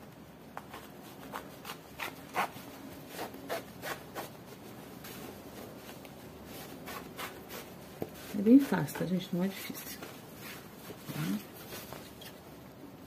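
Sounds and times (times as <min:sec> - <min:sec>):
fabric rustling and scraping: 0:00.4 - 0:12.6.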